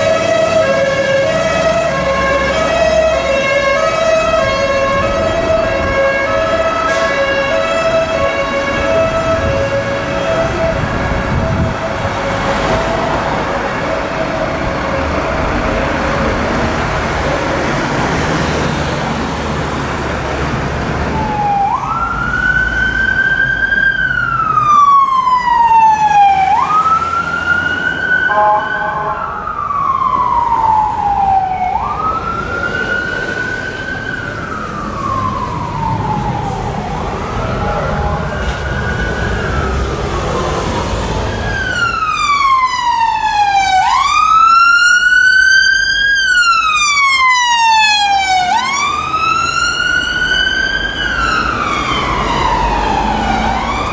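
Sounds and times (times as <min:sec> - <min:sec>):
siren wailing: 0:00.0 - 0:16.2, 0:20.9 - 0:53.9
street traffic: 0:00.0 - 0:53.9.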